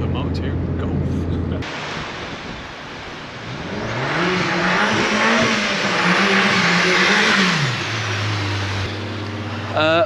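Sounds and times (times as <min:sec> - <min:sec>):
car engine under throttle: 0:00.0 - 0:10.0
loud rushing noise: 0:01.6 - 0:10.0.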